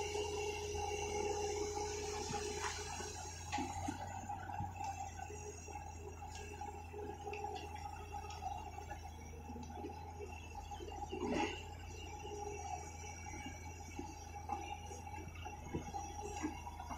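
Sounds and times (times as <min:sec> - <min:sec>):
excavator humming: 0:00.0 - 0:16.9.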